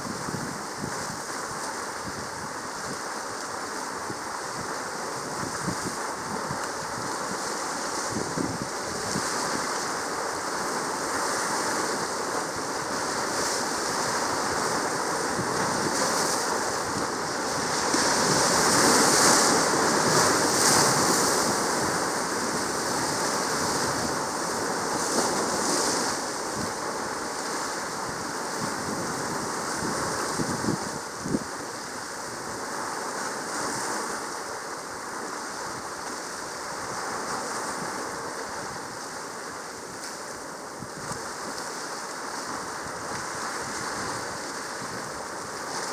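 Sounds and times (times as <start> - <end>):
sea water rushing: 0.0 - 45.9.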